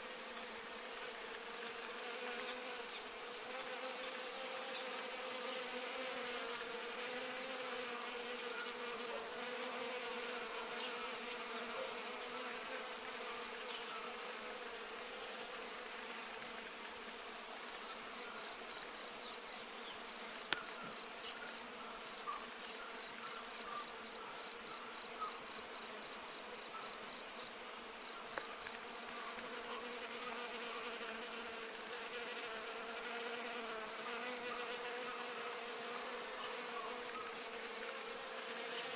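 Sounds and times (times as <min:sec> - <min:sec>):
bees humming: 0:00.0 - 0:25.1, 0:27.8 - 0:38.9.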